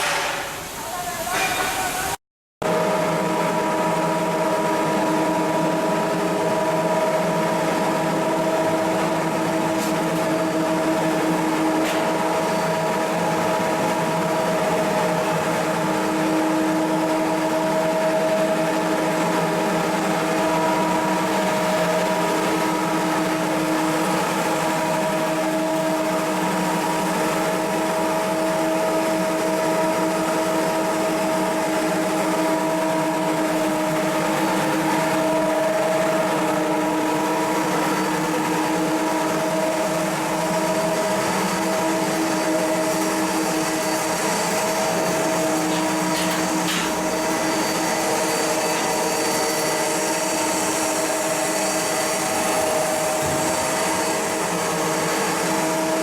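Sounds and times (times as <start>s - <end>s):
ship machinery hum: 0.4s - 56.0s.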